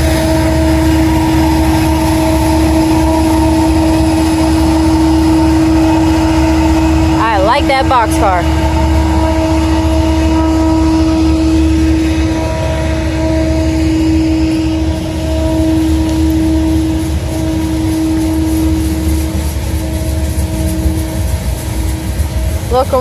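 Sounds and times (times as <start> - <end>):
constant droning tone: 0.0 - 23.0
train wheels rumbling on rail: 0.0 - 23.0.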